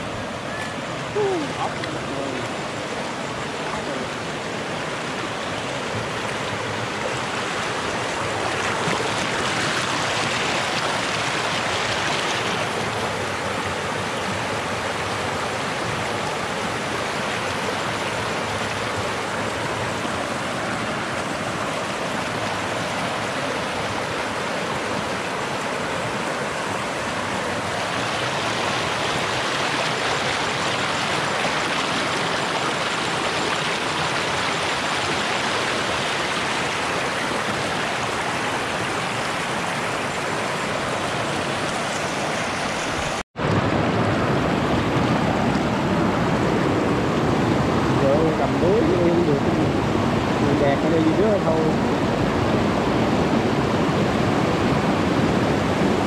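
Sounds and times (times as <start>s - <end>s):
stream splashing over rocks: 0.0s - 56.0s.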